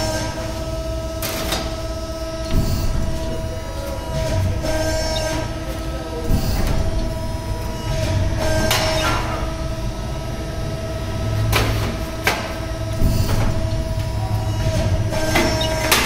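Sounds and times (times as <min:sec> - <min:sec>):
machine hum with constant tone: 0:00.0 - 0:16.0.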